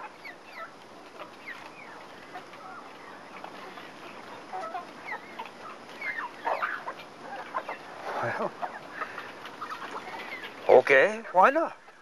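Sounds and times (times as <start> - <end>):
chickens clucking: 0.0 - 12.0
steady background hiss: 0.0 - 12.0.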